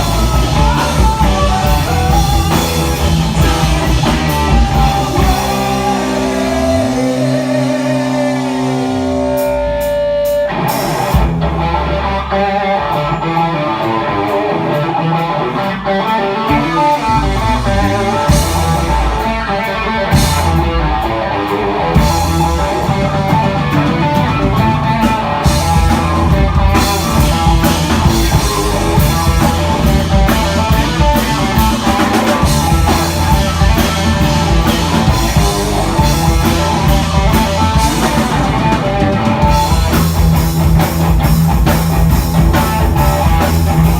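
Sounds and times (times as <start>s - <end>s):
distorted electric guitar: 0.0s - 43.9s
drum kit: 0.0s - 43.9s.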